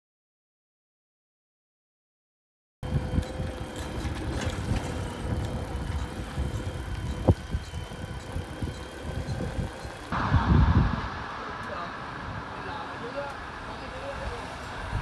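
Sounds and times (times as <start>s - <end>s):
wind and road noise on microphone: 2.8s - 15.0s.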